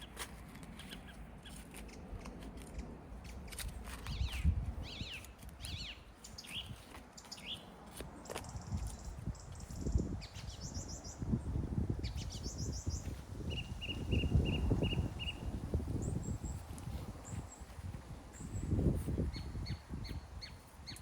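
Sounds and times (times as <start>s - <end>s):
songbirds chirping and singing: 2.8s - 21.0s.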